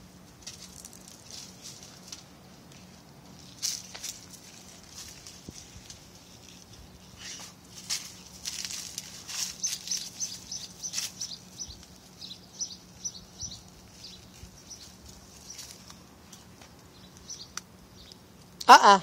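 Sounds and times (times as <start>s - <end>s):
dry leaves rustling: 0.0s - 18.6s
small birds chirping: 1.6s - 19.0s.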